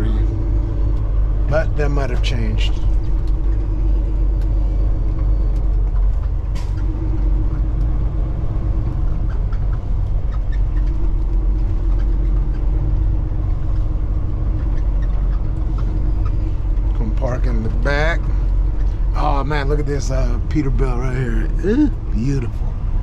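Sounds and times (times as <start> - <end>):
diesel truck engine rumbling: 0.0 - 23.0.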